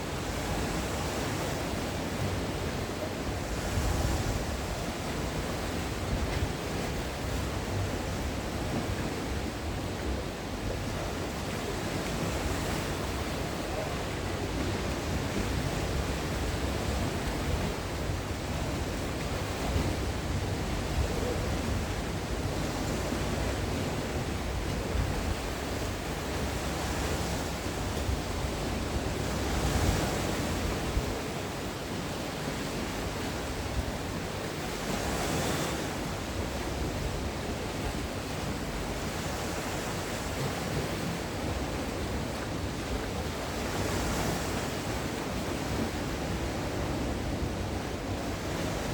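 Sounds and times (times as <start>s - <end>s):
sea waves breaking on shore: 0.0s - 48.9s.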